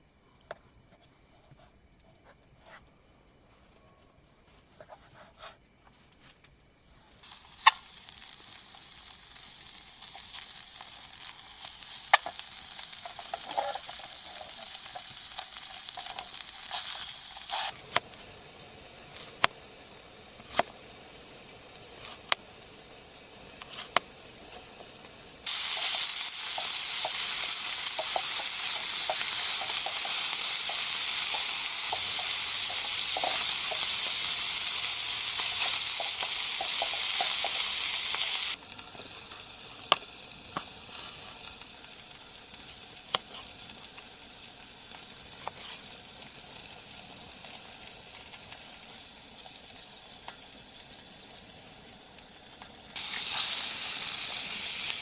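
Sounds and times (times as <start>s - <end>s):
food sizzling in a pan: 7.2s - 55.0s.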